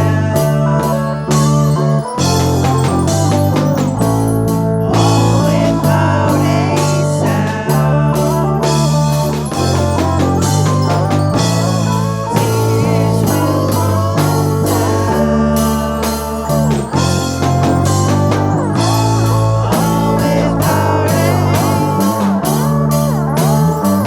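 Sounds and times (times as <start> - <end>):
instrumental rock music: 0.0 - 24.0.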